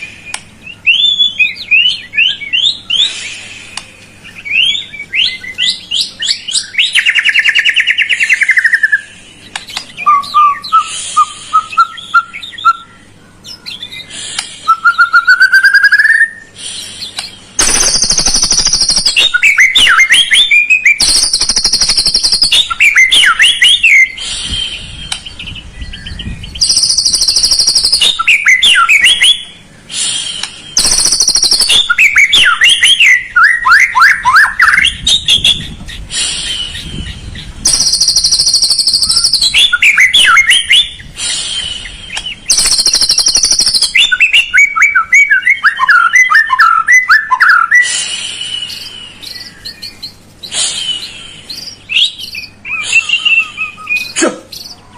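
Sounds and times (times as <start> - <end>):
bird whistled song: 0.0 - 54.9
buzzy high bird trills: 0.0 - 54.9.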